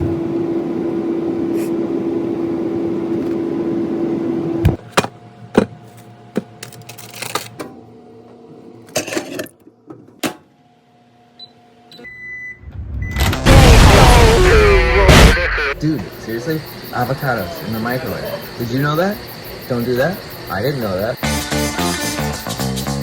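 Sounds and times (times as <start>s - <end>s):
microwave oven humming: 0.0s - 7.0s, 9.7s - 22.8s.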